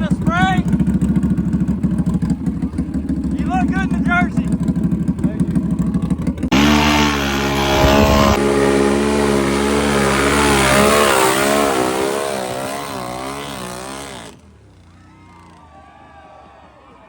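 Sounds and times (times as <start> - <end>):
atv engine racing: 0.0 - 16.3.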